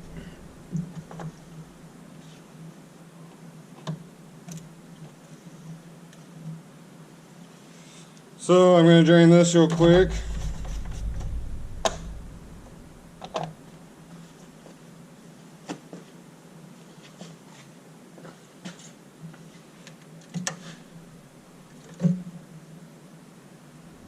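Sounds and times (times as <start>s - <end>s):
faint steady hum: 0.0s - 17.1s, 19.0s - 24.0s.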